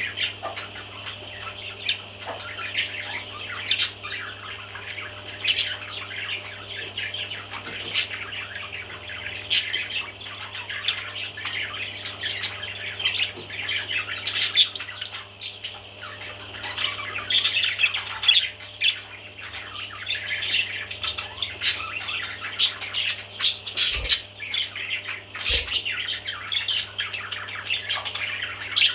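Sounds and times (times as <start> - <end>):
baby parrots chirping and squawking: 0.2 - 28.9.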